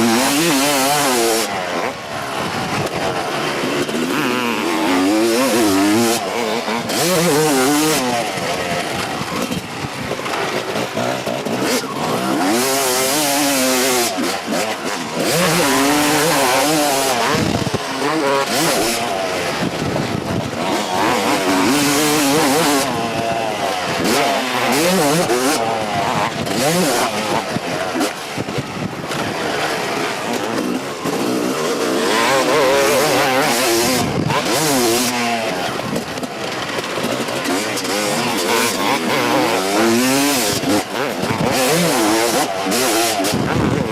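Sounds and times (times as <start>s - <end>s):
two-stroke motorcycle engine revving: 0.0s - 43.9s.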